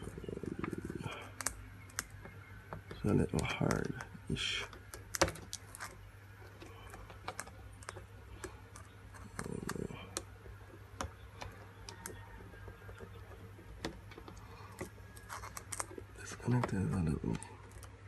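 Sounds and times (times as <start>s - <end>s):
low steady hum: 0.0s - 18.0s
plastic parts handled: 0.0s - 18.0s.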